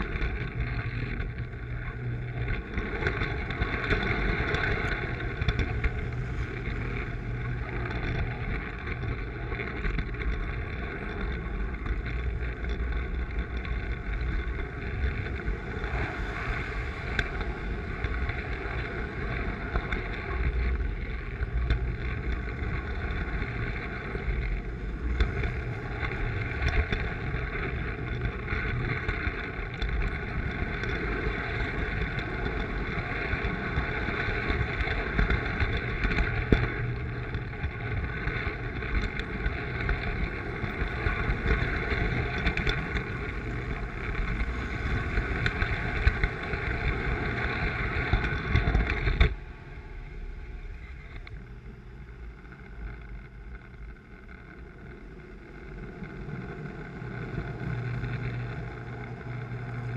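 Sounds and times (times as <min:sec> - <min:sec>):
quiet hum: 0:00.0 - 0:59.9.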